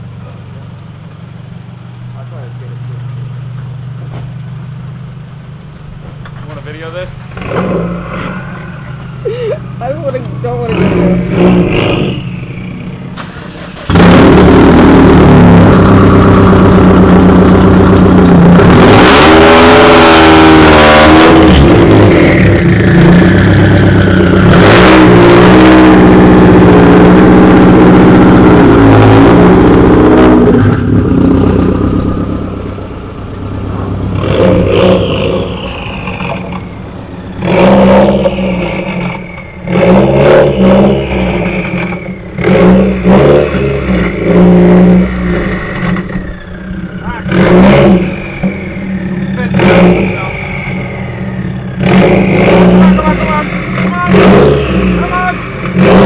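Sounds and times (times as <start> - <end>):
car engine revving hard: 6.8 - 56.0.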